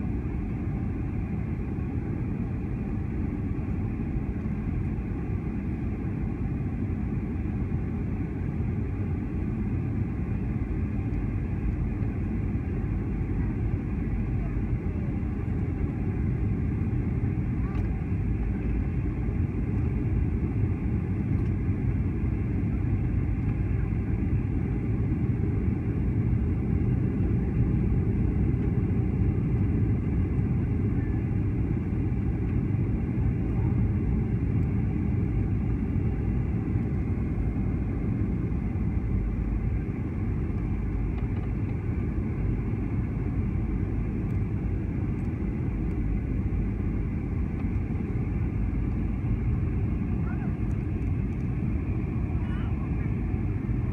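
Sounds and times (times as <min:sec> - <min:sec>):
jet cabin roar: 0:00.0 - 0:53.9.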